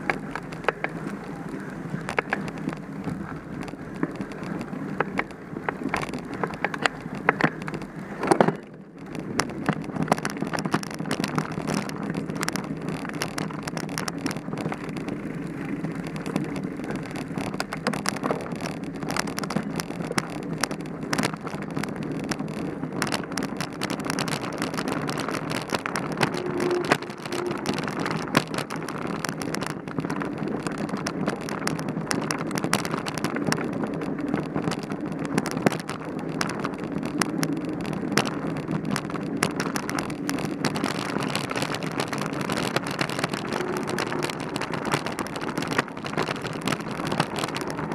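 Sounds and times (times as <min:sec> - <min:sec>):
bike rattling clicks and knocks: 0:00.0 - 0:47.9
tyre and wind noise: 0:00.0 - 0:47.9.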